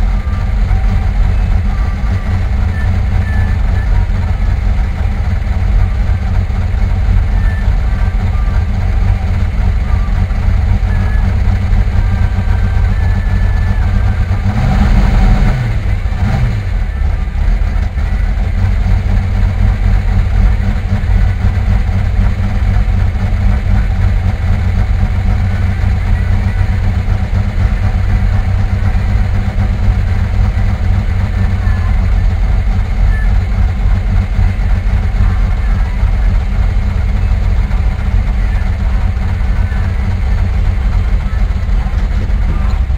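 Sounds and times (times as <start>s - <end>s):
car engine rumbling while driving: 0.0s - 42.9s.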